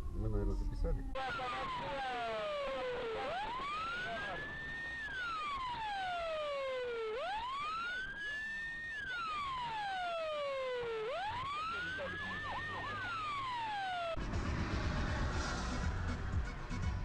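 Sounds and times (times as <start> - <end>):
emergency siren wailing: 0.0 - 14.3.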